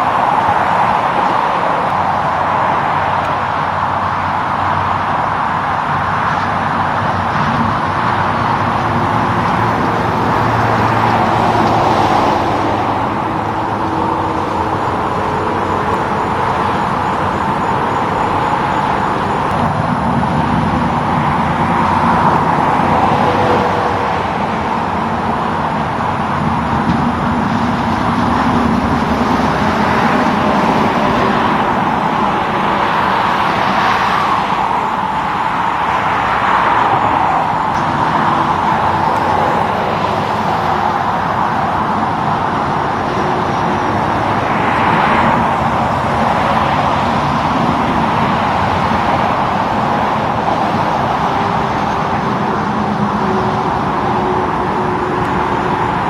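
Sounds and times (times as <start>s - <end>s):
highway traffic passing: 0.0s - 56.0s.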